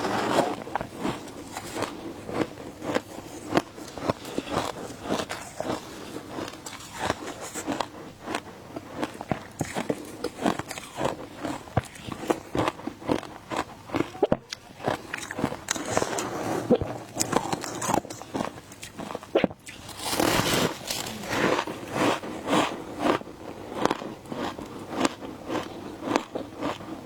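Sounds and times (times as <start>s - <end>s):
person chewing crunchy ice: 0.0s - 27.0s.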